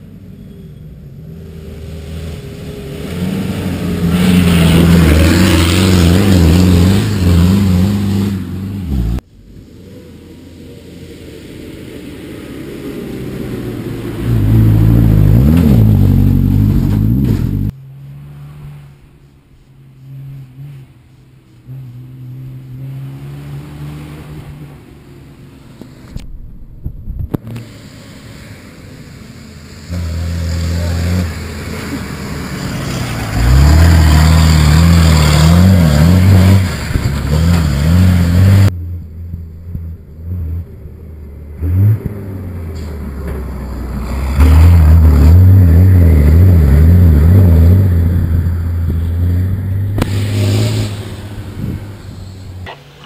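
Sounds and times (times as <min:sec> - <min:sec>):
rally car engines revving: 0:00.0 - 0:26.2, 0:27.4 - 0:53.0.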